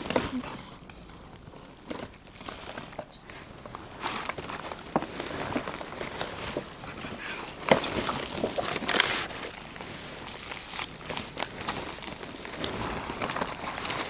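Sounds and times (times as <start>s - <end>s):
plastic wrap crinkling: 0.0s - 14.0s
sharp plastic crackles: 0.0s - 14.0s.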